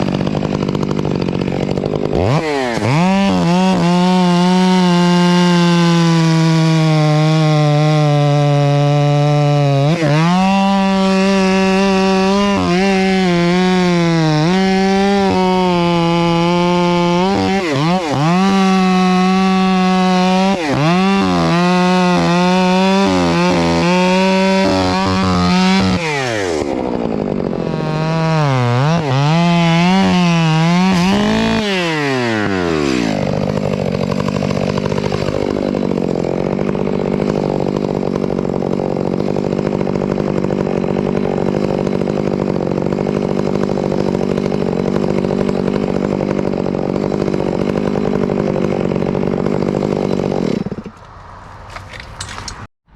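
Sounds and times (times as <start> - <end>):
chainsaw cutting wood: 0.0 - 52.7.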